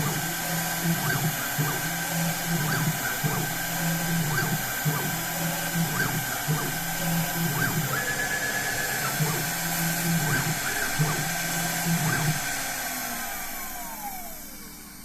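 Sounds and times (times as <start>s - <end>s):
router spindle whining: 0.0s - 15.0s
stepper motors humming: 0.0s - 15.0s.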